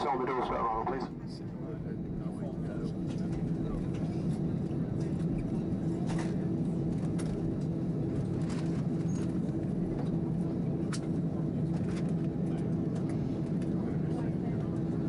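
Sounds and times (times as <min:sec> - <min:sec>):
airplane cabin hum: 0:00.0 - 0:15.0.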